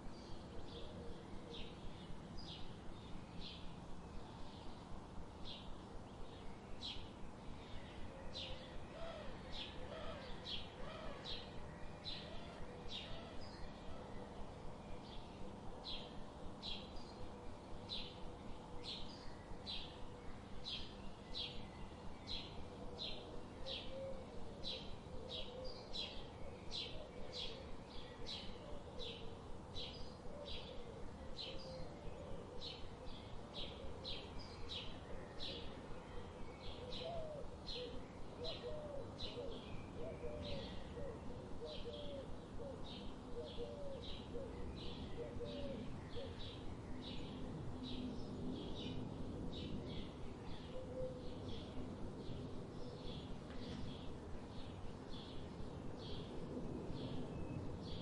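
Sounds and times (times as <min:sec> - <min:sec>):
background hiss: 0:00.0 - 0:58.0
songbird chirping: 0:00.0 - 0:58.0.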